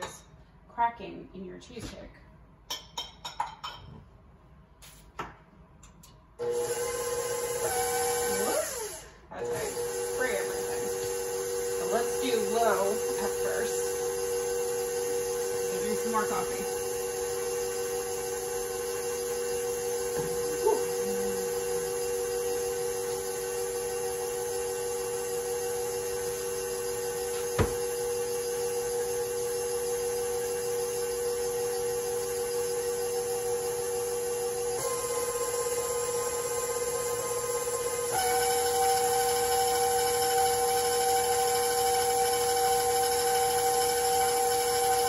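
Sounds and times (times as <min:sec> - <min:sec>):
stand mixer motor humming: 0:06.4 - 0:45.0.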